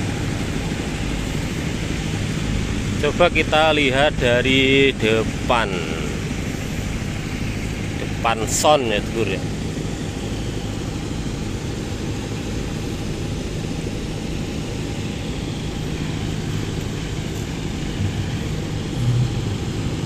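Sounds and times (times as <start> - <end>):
outdoor background rumble and hiss: 0.0 - 20.0.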